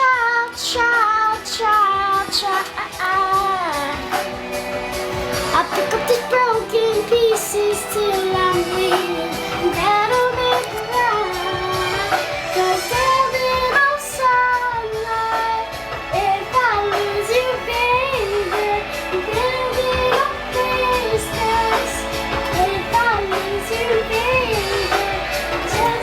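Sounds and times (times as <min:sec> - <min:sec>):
child singing: 0:00.0 - 0:04.3, 0:05.5 - 0:26.0
pop ballad backing track: 0:00.0 - 0:26.0.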